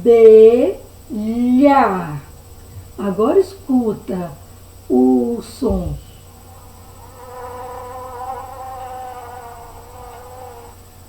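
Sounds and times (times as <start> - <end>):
bee buzzing: 0.4 - 11.0.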